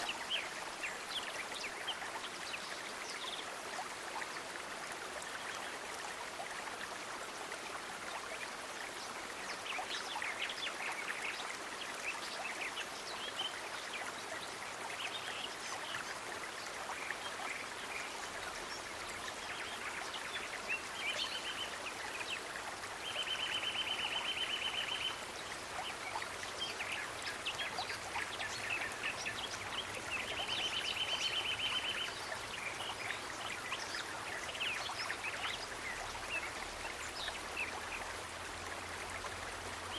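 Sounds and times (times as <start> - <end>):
flowing water hiss: 0.0 - 39.9.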